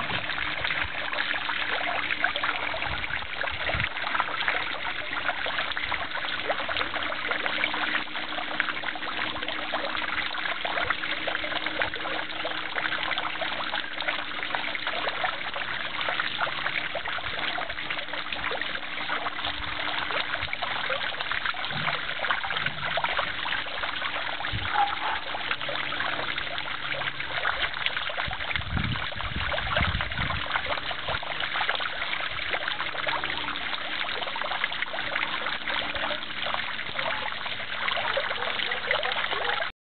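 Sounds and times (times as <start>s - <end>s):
fountain water splashing: 0.0s - 39.7s.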